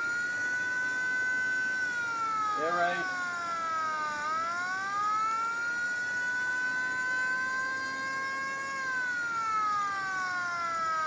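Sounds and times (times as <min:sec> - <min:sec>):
air raid siren wailing: 0:00.0 - 0:11.0.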